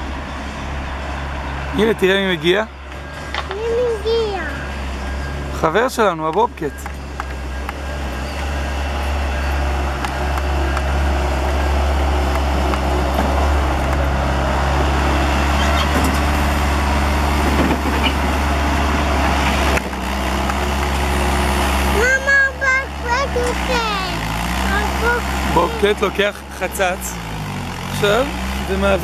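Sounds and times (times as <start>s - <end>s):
diesel engine rumbling: 0.0s - 29.0s.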